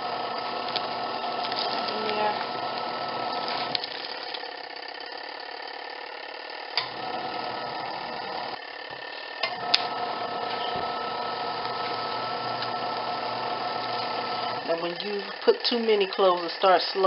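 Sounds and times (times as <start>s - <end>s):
washing machine motor churning: 0.0s - 17.0s.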